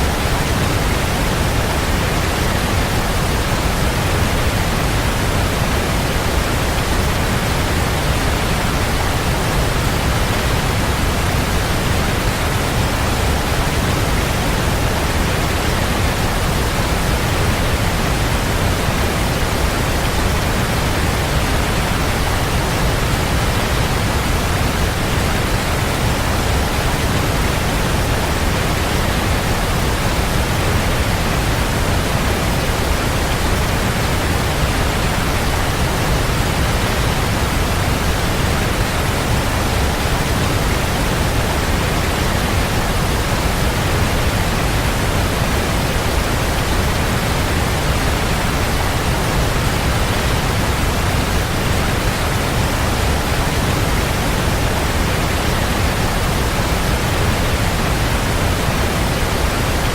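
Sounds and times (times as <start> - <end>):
waterfall crashing: 0.0 - 59.9.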